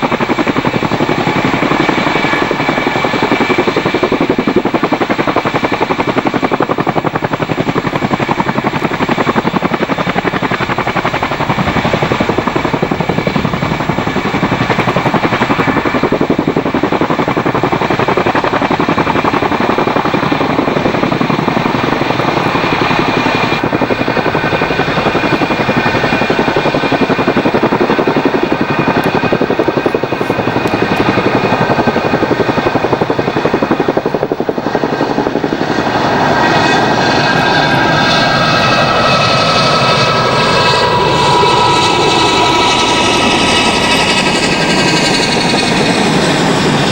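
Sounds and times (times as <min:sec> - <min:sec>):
helicopter rotors beating: 0:00.0 - 0:46.9
turbine engine whine: 0:00.0 - 0:46.9.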